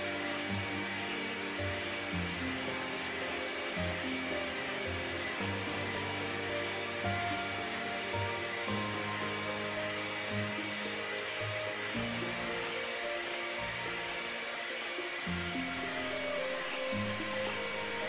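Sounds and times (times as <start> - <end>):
background music: 0.0 - 18.0
electric hand mixer whirring: 0.0 - 18.0.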